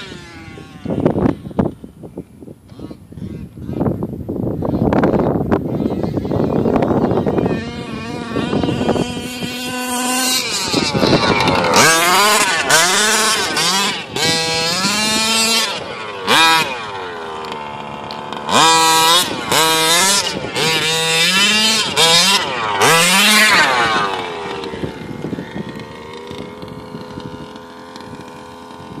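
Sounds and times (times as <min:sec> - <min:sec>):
two-stroke engine revving: 0:00.0 - 0:01.8, 0:02.6 - 0:03.9, 0:05.7 - 0:29.0.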